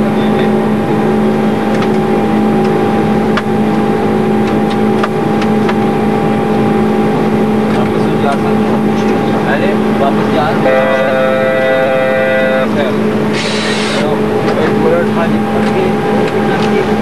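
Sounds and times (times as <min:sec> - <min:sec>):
rushing air and engine noise: 0:00.0 - 0:17.0
steady hum: 0:00.0 - 0:17.0.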